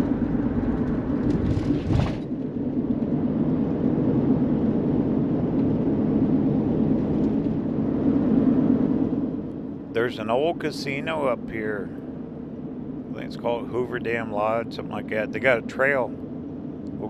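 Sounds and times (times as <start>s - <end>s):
diesel engine and road drone: 0.0s - 17.0s.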